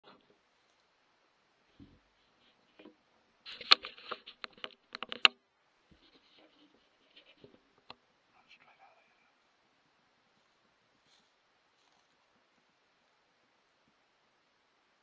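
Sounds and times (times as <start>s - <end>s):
rustling: 0.1s - 9.6s, 10.2s - 12.8s.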